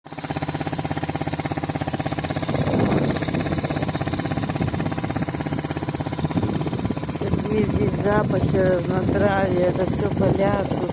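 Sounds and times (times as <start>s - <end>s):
vehicle engine running: 0.1s - 10.9s.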